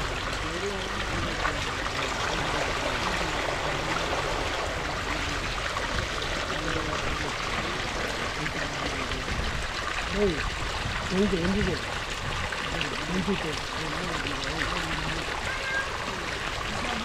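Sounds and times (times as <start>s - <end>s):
water gushing from a pipe: 0.0s - 17.0s.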